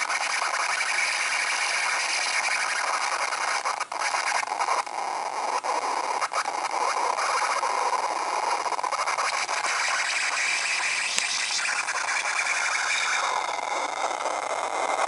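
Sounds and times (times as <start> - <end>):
harsh screeching from laptop speaker: 0.0 - 15.0.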